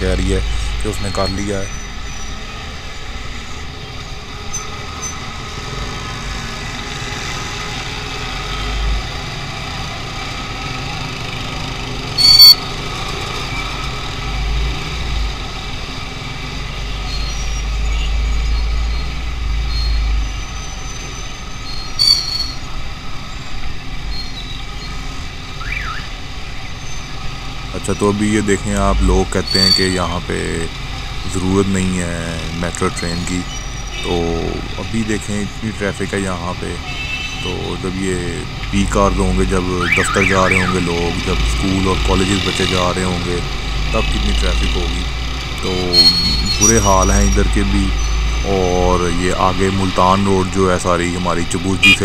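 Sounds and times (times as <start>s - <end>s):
traffic engines: 0.0s - 52.0s.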